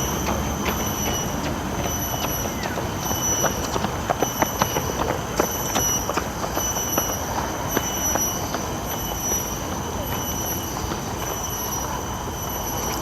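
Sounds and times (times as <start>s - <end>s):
pulsing high-pitched drone: 0.0s - 13.0s.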